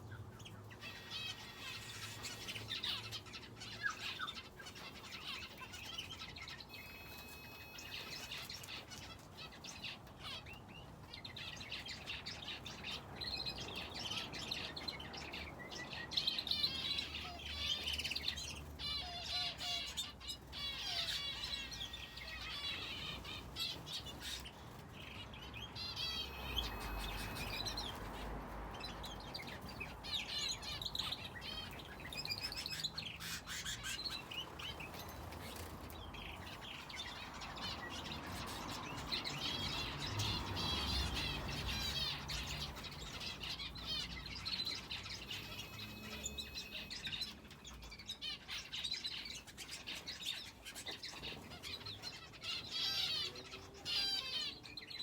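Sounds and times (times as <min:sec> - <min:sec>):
finches and canary chirping: 0:00.0 - 0:55.0.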